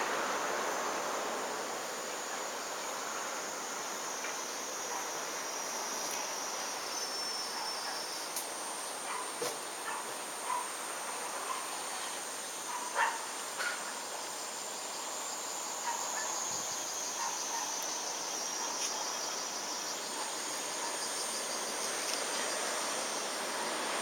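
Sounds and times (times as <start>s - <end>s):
cicadas buzzing: 0.0s - 24.0s.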